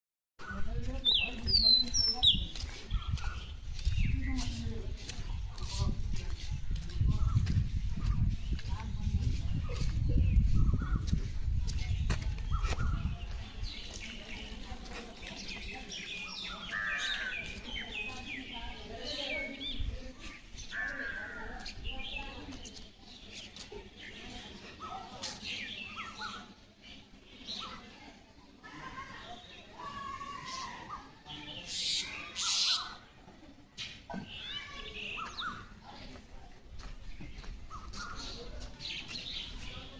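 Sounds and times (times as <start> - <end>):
small birds chirping: 0.4 - 39.9.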